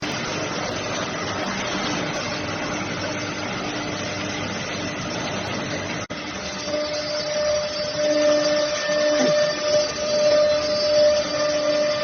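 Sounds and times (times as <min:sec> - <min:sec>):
cnc router running: 0:00.0 - 0:12.0
faint machine whine: 0:00.0 - 0:12.0.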